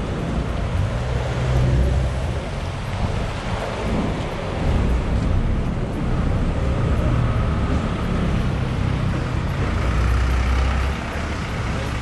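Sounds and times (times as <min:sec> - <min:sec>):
engines rumbling low: 0:00.0 - 0:12.0
traffic on a wet road: 0:00.0 - 0:12.0.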